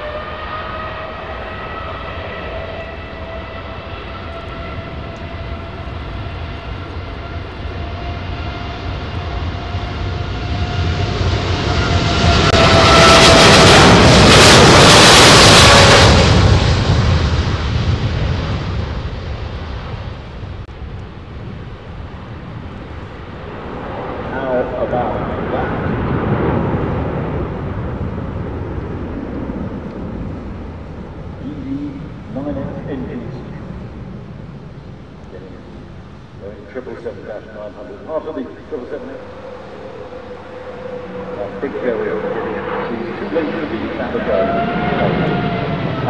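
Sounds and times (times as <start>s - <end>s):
jet engine fan whine: 0.0s - 46.0s
jet engine roar: 0.0s - 46.0s.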